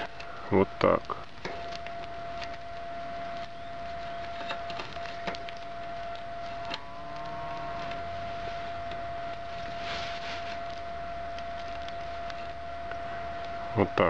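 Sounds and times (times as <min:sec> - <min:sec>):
steady high-pitched tone: 0:00.0 - 0:14.0.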